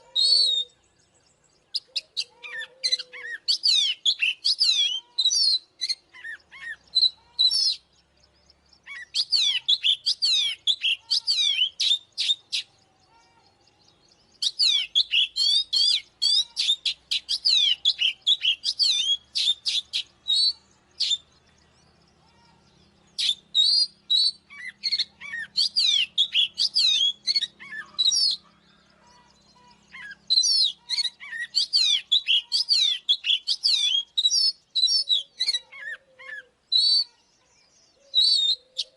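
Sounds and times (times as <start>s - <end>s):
bird singing whistled notes: 0.0s - 38.9s.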